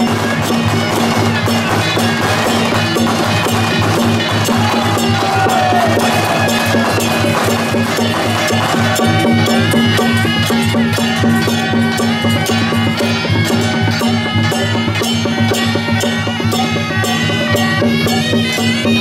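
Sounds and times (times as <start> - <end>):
fast percussion strokes: 0.0 - 19.0
traditional folk music: 0.0 - 19.0.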